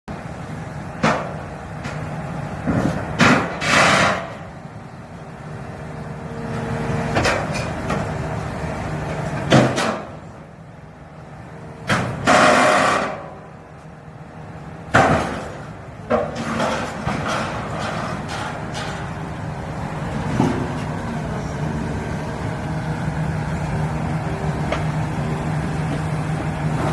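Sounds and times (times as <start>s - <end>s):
excavator engine running: 0.1s - 26.9s.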